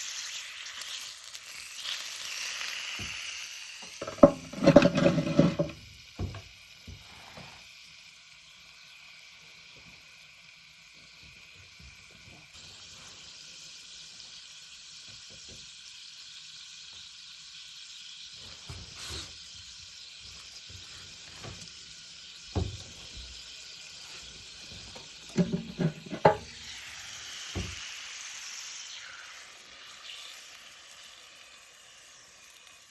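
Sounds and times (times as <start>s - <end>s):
meat sizzling on a grill: 0.0s - 32.9s.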